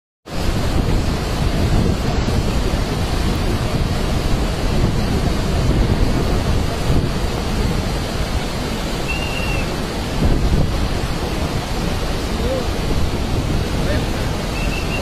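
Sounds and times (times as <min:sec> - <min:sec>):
river torrent rushing: 0:00.3 - 0:15.0.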